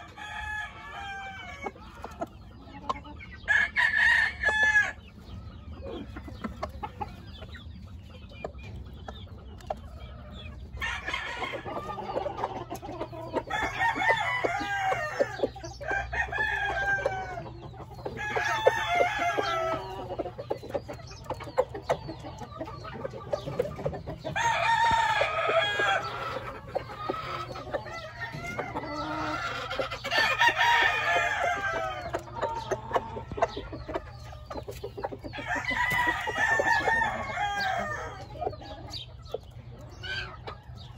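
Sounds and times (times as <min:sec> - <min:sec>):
roosters crowing: 0:00.0 - 0:07.4, 0:10.0 - 0:40.9
chicken clucking: 0:00.0 - 0:40.9.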